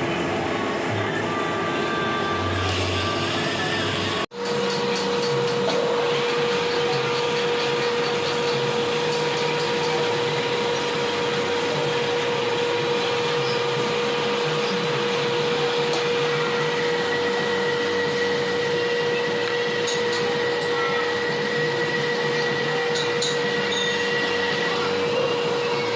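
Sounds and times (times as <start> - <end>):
milling machine whine and hum: 0.0 - 25.9.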